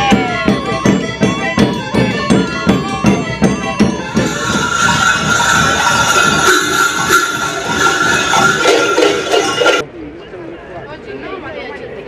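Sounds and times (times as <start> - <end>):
cowbells clanging: 0.0 - 9.8
frame drums beating: 0.0 - 9.8
pipe playing a tune: 0.0 - 9.8.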